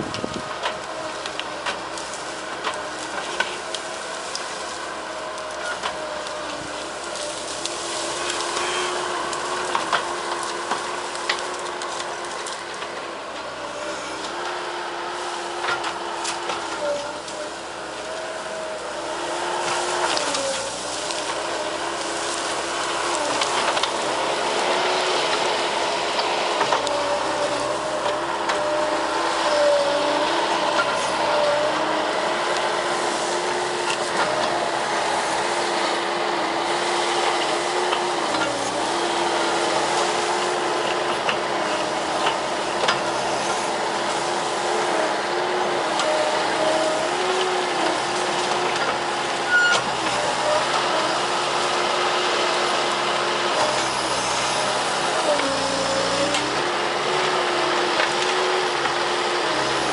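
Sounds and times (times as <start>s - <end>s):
brush cracking as sheared: 0.0s - 59.9s
skid steer diesel engine running: 0.0s - 59.9s.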